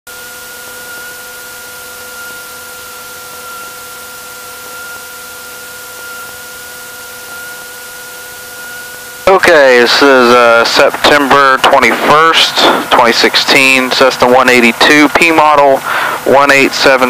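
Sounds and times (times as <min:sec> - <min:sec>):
aircraft engine running: 0:00.1 - 0:17.0.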